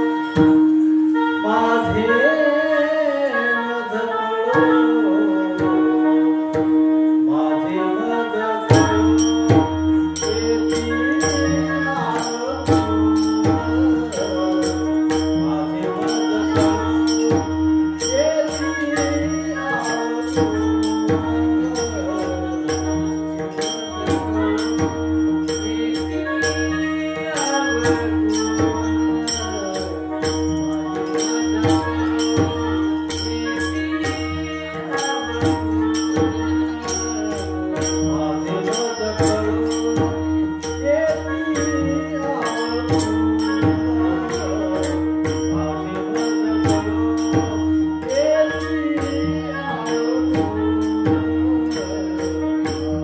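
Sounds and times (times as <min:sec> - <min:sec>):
percussion beat: 0:00.0 - 0:01.2, 0:08.7 - 0:53.0
held drone note: 0:00.0 - 0:53.0
person singing: 0:00.0 - 0:53.0.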